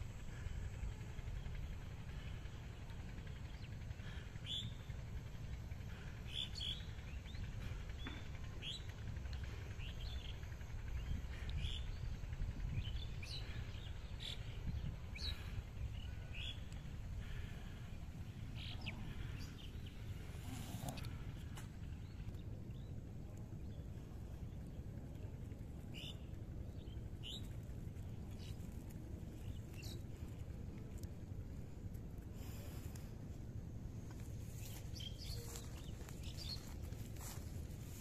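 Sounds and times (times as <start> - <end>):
birds chirping: 0.0 - 38.0
steady low rumble: 0.0 - 38.0.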